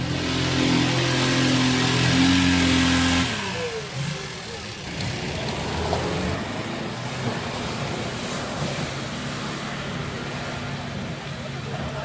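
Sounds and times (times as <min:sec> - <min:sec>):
off-road vehicle engine under load: 0:00.0 - 0:12.0
tyres churning through mud: 0:00.0 - 0:12.0.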